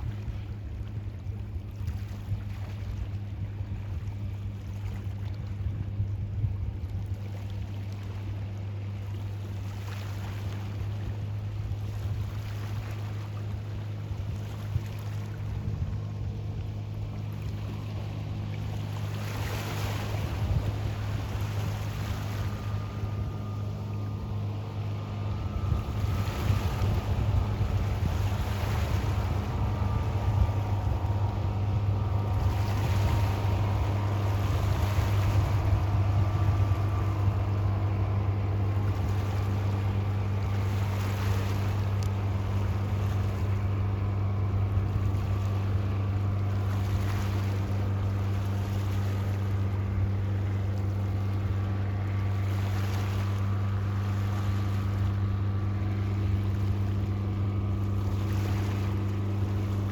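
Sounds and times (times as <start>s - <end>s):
boat engine humming: 0.0s - 59.9s
waves washing: 0.0s - 59.9s.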